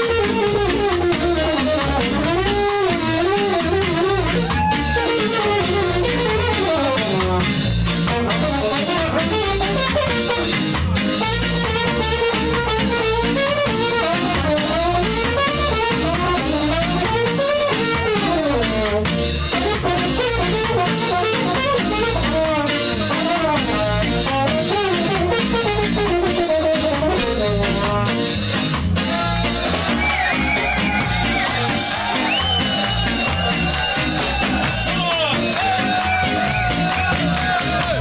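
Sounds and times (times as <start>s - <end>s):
drum kit steady beat: 0.0s - 38.0s
horn section playing: 0.0s - 38.0s.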